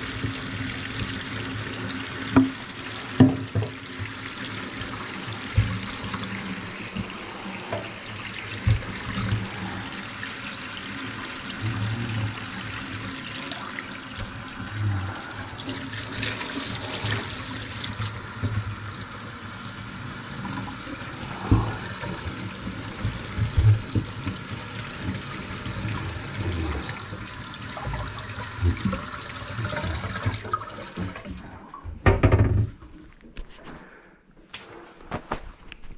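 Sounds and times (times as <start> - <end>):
water running into sink: 0.0 - 32.6.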